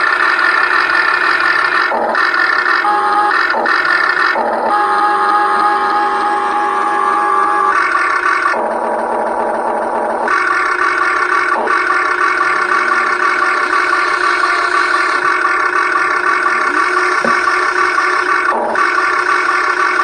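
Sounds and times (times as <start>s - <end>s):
electric motors and gears whining: 0.0s - 20.0s.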